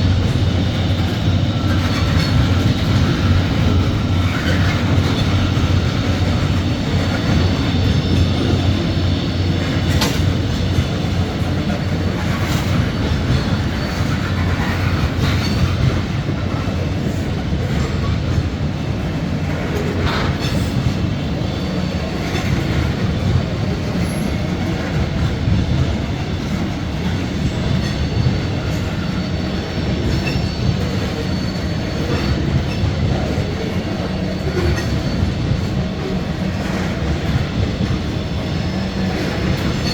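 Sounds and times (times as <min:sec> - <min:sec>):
train clanks: 0:00.0 - 0:39.9
train wheels rumbling on rail: 0:00.0 - 0:39.9.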